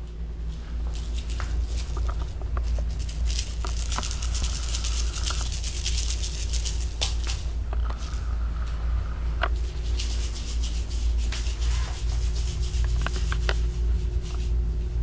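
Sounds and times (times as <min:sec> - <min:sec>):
kittens pattering and scratching: 0:00.0 - 0:15.0
steady low hum: 0:00.0 - 0:15.0.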